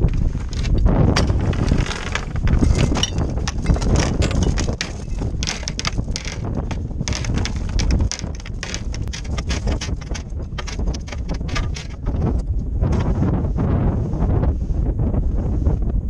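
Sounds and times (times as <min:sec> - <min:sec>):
short rattles and knocks: 0:00.0 - 0:13.3
storm wind buffeting microphone: 0:00.0 - 0:16.0.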